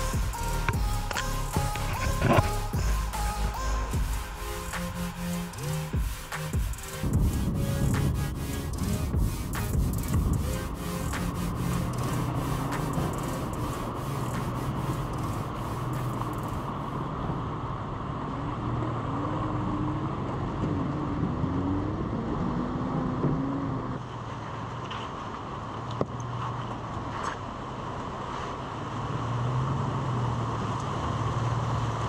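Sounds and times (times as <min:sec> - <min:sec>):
truck engine at low speed: 0:00.0 - 0:32.0.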